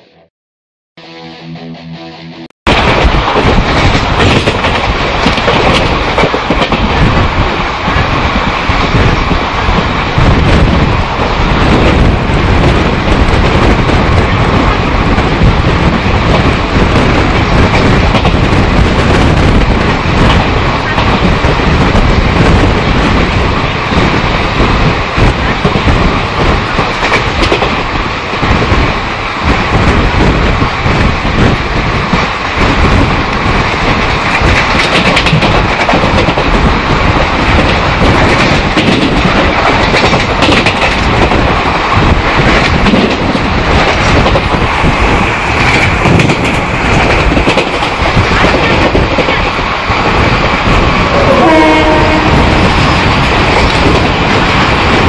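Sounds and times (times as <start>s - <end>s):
clickety-clack of rail joints: 2.7s - 55.0s
train wheels rumbling on rail: 2.7s - 55.0s.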